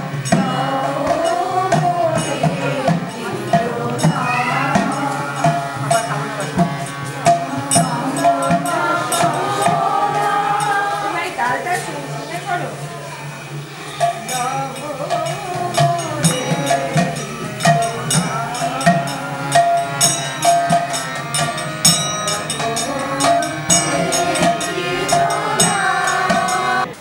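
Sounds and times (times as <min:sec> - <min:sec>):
person singing: 0:00.0 - 0:12.4, 0:13.8 - 0:27.0
quick hand percussion: 0:00.0 - 0:27.0.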